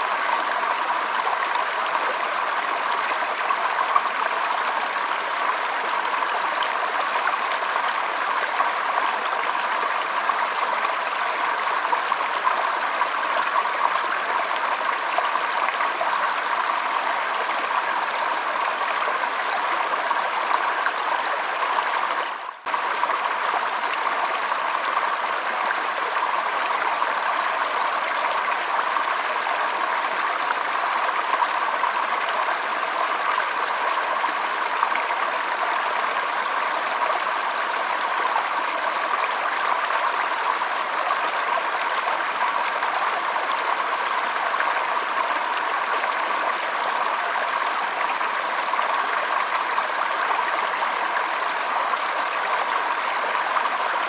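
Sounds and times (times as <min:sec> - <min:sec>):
stream flowing and trickling: 0:00.0 - 0:54.0.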